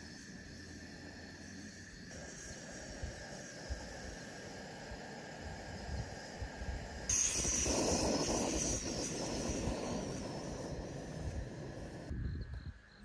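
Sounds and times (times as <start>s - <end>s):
gas stove burner hissing: 0.0s - 12.1s
insects at night: 0.0s - 13.0s.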